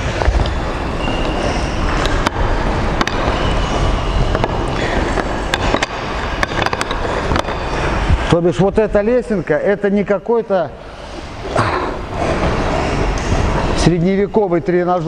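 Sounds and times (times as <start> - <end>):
steady loud rumbling: 0.0 - 15.0.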